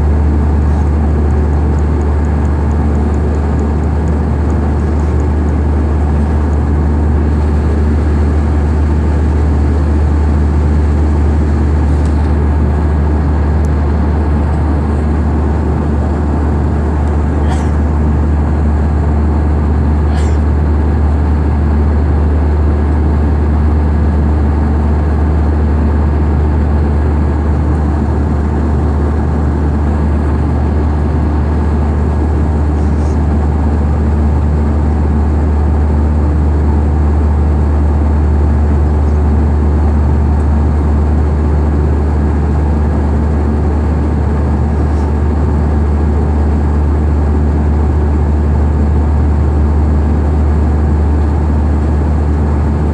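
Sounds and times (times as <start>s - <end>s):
vehicle engine drone from inside: 0.0s - 52.9s.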